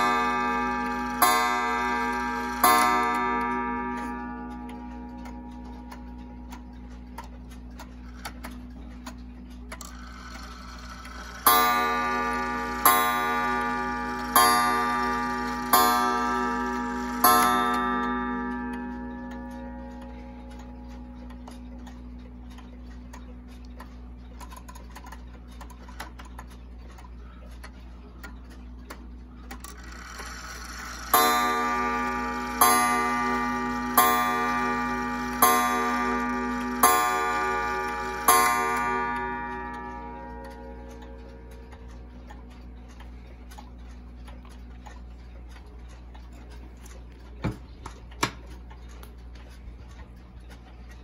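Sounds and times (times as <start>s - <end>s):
clock striking on coil gong: 0.0s - 26.2s, 29.6s - 49.2s
faint clock ticking: 0.0s - 51.0s.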